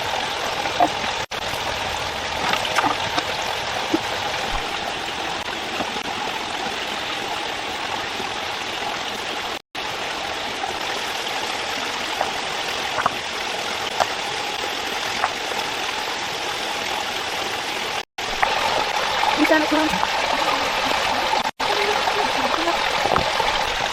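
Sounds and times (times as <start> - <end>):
stream water flowing: 0.0 - 23.9.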